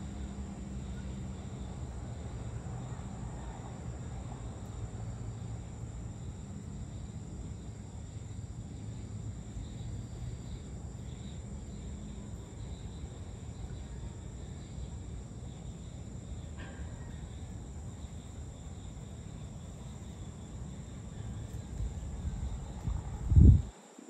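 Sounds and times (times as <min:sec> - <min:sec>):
distant town rumble: 0:00.0 - 0:23.8
faint insect chirping: 0:00.0 - 0:24.0.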